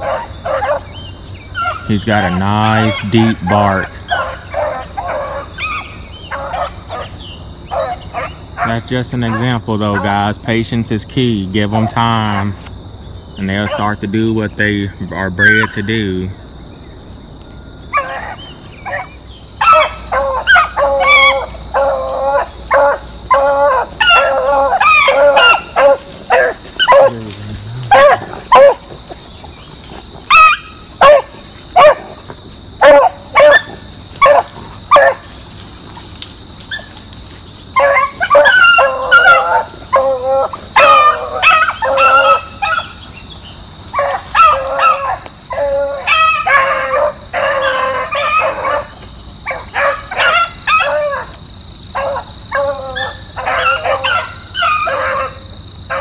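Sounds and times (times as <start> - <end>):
hounds baying: 0.0 - 12.8, 13.4 - 14.0, 15.1 - 16.2, 17.0 - 56.0.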